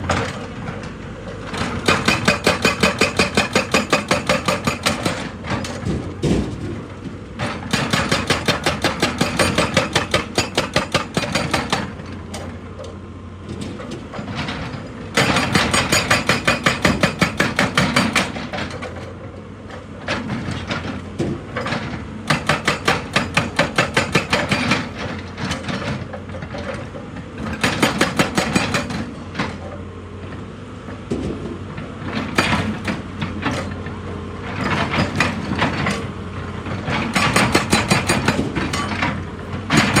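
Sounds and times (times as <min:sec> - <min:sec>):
hydraulic breaker hammering rock: 0:01.5 - 0:12.1, 0:13.6 - 0:19.1, 0:20.0 - 0:29.8, 0:31.0 - 0:33.9, 0:34.5 - 0:40.0.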